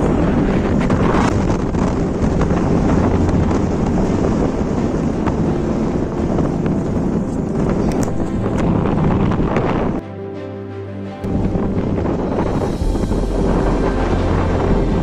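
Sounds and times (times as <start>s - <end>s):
wind buffeting microphone: 0.0s - 10.0s, 11.2s - 15.0s.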